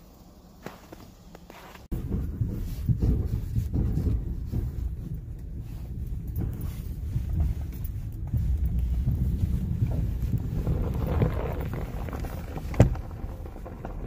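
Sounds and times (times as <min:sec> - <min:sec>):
truck engine and tyres rumbling: 0:00.0 - 0:14.0.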